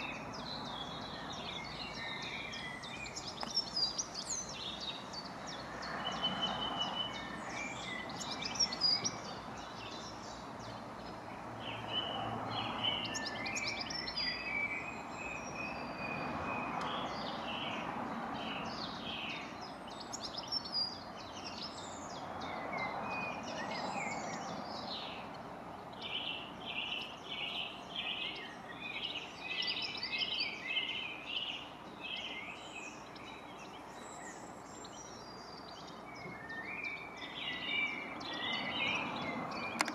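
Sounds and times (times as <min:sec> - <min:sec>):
distant background rush: 0:00.0 - 0:39.9
finch singing high chirps: 0:00.0 - 0:39.9.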